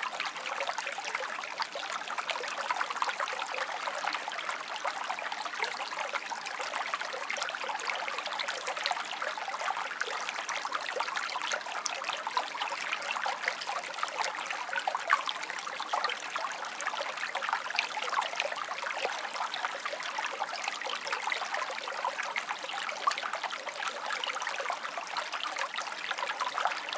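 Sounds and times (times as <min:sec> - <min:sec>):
small stream babbling: 0:00.0 - 0:26.9.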